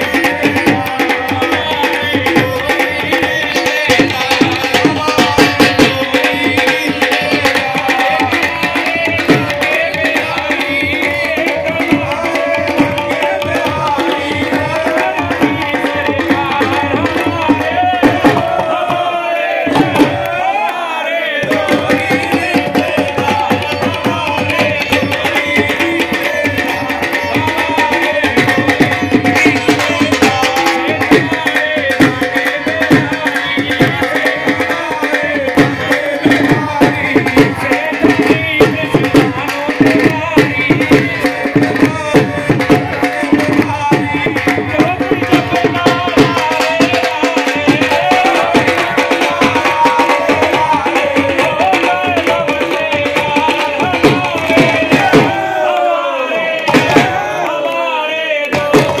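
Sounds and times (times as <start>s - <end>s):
hand drum fast rhythm: 0.0s - 20.8s, 21.4s - 57.7s, 58.4s - 59.0s
crowd clapping along: 0.0s - 59.0s
man singing into microphone: 0.0s - 59.0s.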